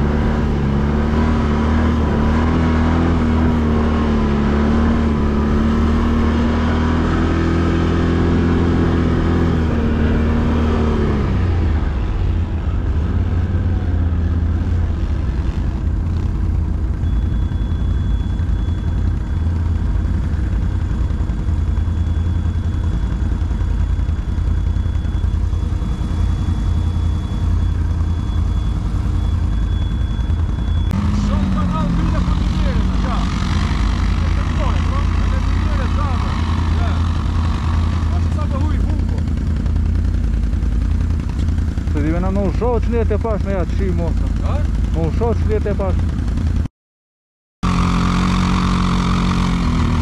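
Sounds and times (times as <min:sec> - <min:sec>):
atv engine revving: 0:00.0 - 0:46.7, 0:47.6 - 0:50.0.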